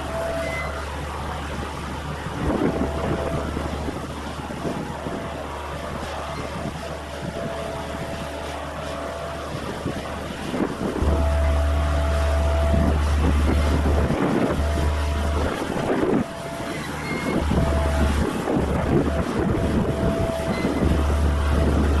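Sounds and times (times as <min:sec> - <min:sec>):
diesel engine running: 0:00.0 - 0:22.0
thin steady whine: 0:00.0 - 0:22.0
wind buffeting microphone: 0:00.0 - 0:22.0.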